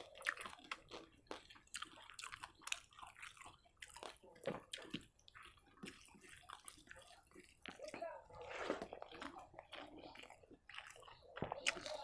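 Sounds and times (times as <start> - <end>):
chewing and mouth sounds: 0.0 - 12.0.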